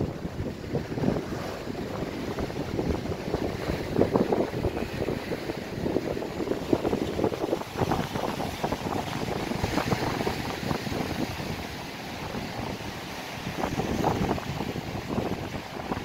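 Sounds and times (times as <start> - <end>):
waves breaking against seawall: 0.0 - 16.0
wind buffeting microphone: 0.0 - 16.0.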